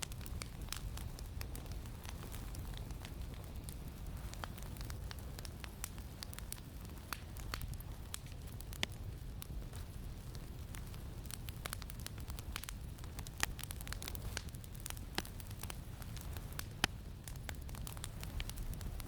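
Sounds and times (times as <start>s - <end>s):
campfire crackling with sharp pops: 0.0s - 19.0s.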